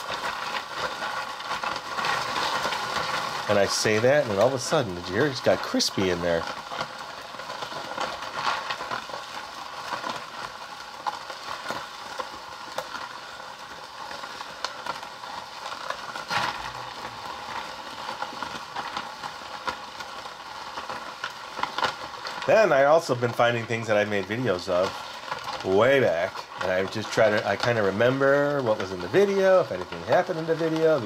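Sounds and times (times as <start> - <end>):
toy ice cream maker crunching: 0.0 - 31.0.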